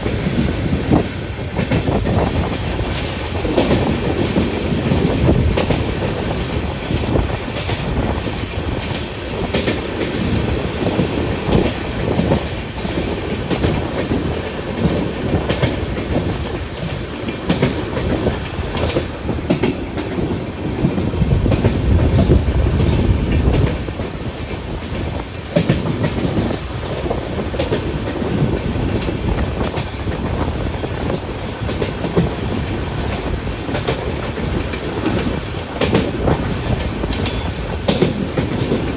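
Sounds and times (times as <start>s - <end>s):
train rumble: 0.0s - 38.9s
train wheels clacking: 0.0s - 38.9s.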